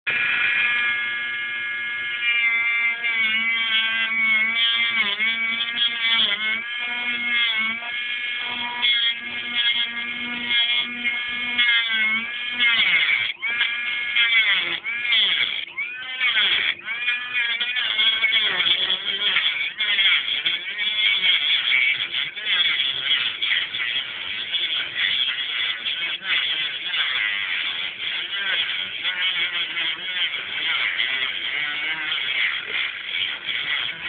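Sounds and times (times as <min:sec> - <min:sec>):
rotary tool cut-off disc whining: 0:00.1 - 0:34.0.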